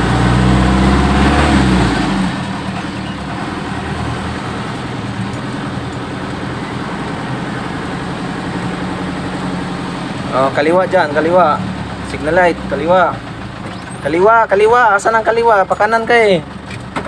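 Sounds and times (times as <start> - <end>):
road noise: 0.0 - 17.0
truck engine running: 0.0 - 17.0.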